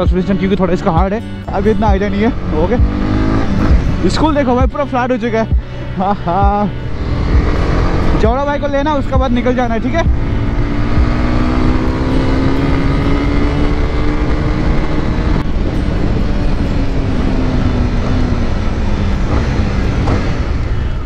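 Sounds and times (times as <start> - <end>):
motorcycle engine accelerating: 0.0 - 21.0
wind and tyre noise: 0.0 - 21.0.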